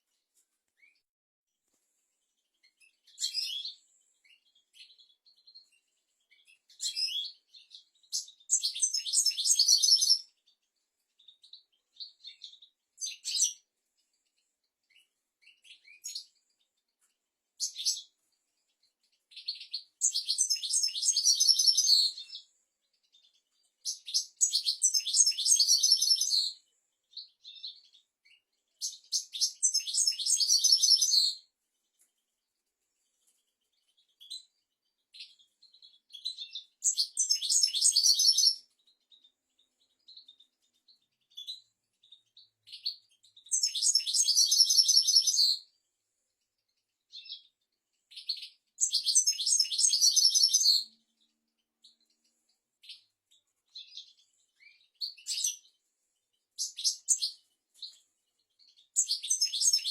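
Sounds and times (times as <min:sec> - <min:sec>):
finch twittering song: 0:02.2 - 0:32.3, 0:32.9 - 0:45.8, 0:46.5 - 0:59.9.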